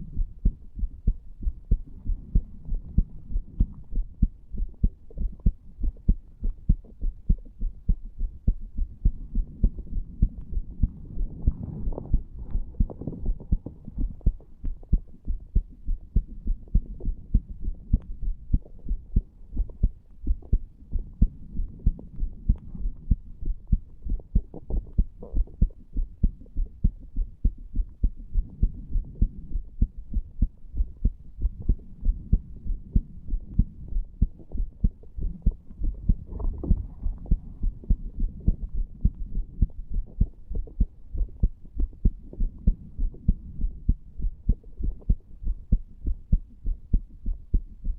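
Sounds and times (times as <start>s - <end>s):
heartbeat thumps: 0.0s - 47.9s.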